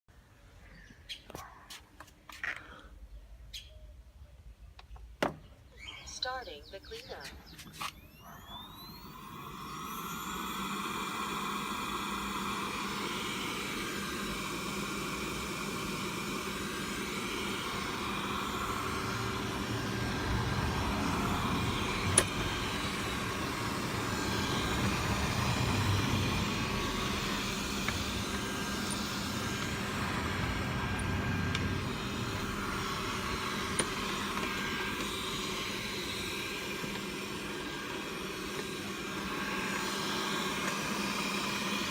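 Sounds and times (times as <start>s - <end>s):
robot vacuum fan whine: 7.7s - 41.9s.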